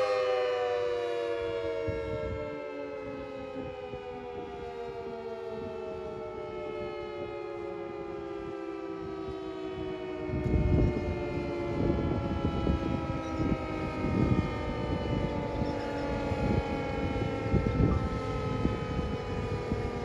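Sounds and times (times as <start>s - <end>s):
warning siren winding down: 0.0s - 20.0s
wind buffeting microphone: 1.2s - 20.0s.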